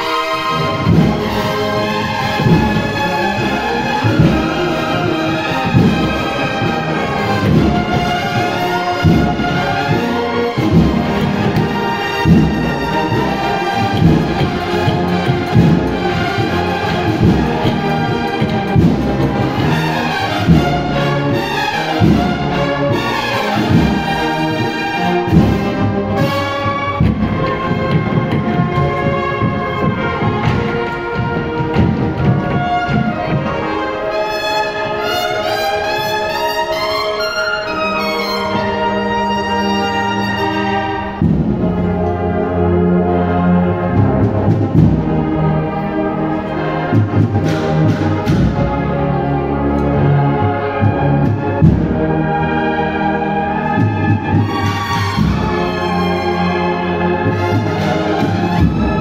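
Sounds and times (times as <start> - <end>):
steady drum beat: 0.0 - 36.0, 39.6 - 42.0, 43.2 - 49.8, 50.6 - 59.0
bugles and brass playing: 0.0 - 59.0.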